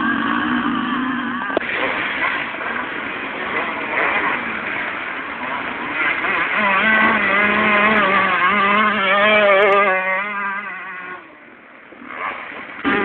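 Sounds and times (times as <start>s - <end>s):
motorbike engine revving past: 0.0s - 13.0s.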